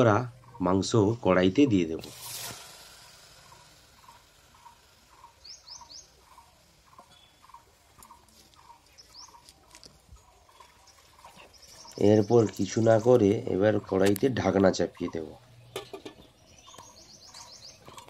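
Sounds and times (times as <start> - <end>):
high rising bird chirps: 0.0 - 1.7, 3.0 - 18.0.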